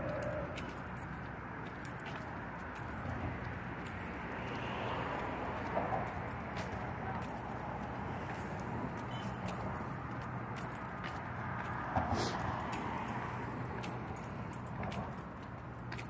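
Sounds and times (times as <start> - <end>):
traffic on a bridge: 0.0 - 16.0.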